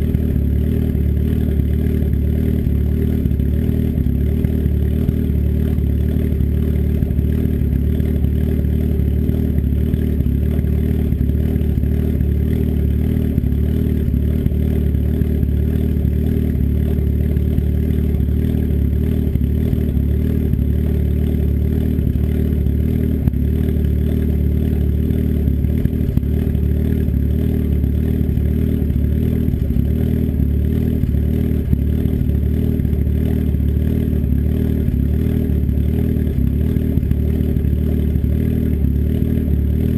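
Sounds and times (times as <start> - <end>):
turbocharged engine idling: 0.0 - 39.9.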